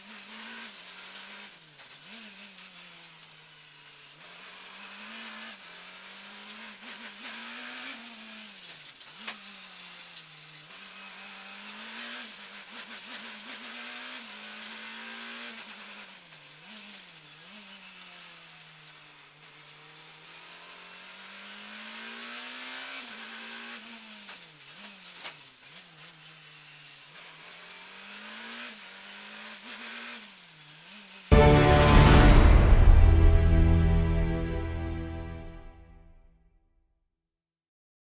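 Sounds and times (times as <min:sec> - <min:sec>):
rally car engine revving: 0:00.0 - 0:35.6.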